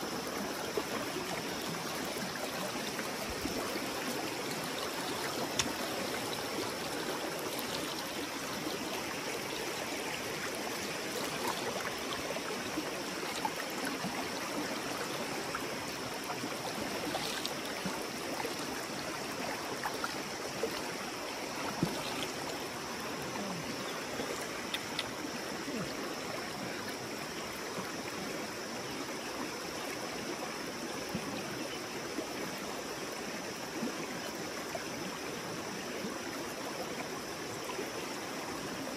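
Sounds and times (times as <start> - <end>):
river water running: 0.0 - 38.9.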